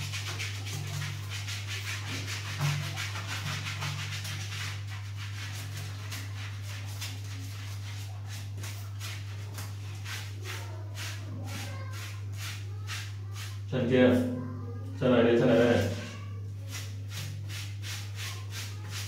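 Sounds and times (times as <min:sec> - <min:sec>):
sponge scrubbing wet fur: 0:00.0 - 0:14.4, 0:15.0 - 0:19.0.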